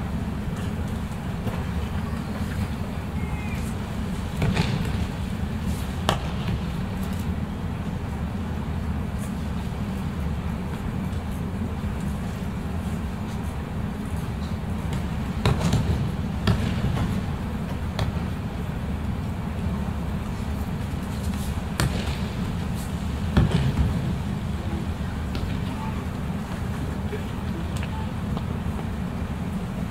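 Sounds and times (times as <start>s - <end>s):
low rumble of a large hall: 0.0s - 29.9s.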